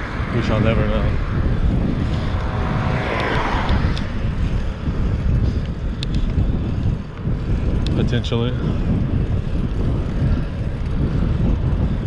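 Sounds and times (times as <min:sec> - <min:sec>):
tyres rumbling on road: 0:00.0 - 0:12.0
wind buffeting microphone: 0:00.0 - 0:12.0.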